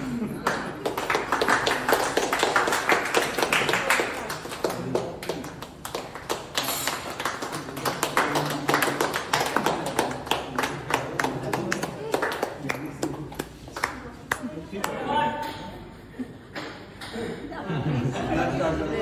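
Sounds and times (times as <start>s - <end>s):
people clapping: 0.0s - 15.5s.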